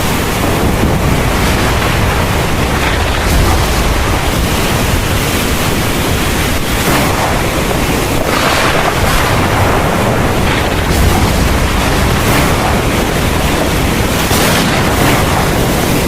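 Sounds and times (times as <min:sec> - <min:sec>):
heavy rain pouring: 0:00.0 - 0:16.0
deep low rumble: 0:00.6 - 0:15.5.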